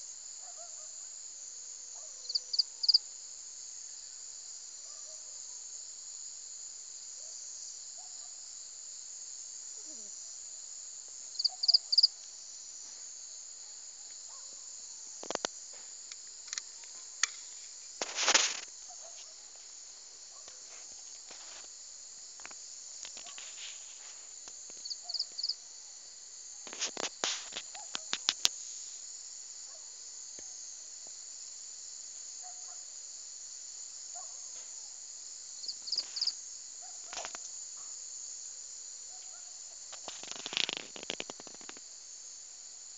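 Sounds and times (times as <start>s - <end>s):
insect chorus: 0.0s - 42.9s.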